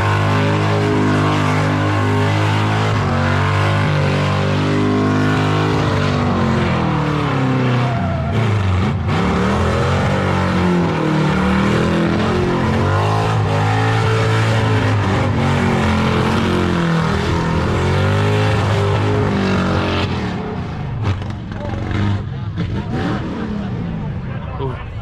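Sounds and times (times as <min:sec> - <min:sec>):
car engine revving: 0:00.0 - 0:24.8
car engines running: 0:00.0 - 0:25.0.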